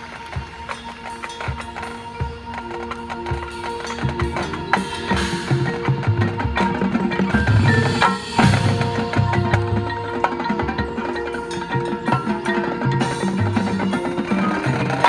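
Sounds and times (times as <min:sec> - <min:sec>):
drums and percussion strikes: 0:00.0 - 0:15.0
marching band playing: 0:00.0 - 0:15.0.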